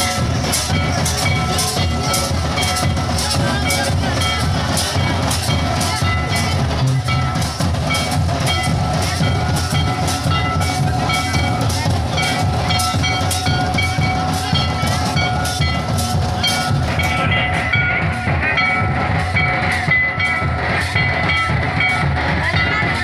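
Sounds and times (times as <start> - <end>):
barrel drums beating: 0.0 - 23.0.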